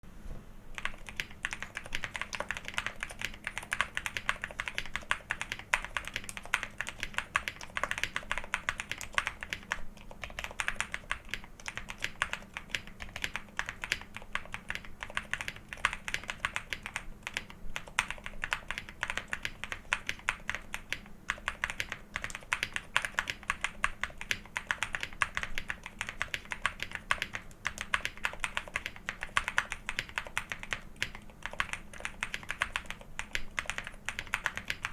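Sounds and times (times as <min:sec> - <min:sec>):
soft mechanical keyboard typing: 0:00.7 - 0:34.9.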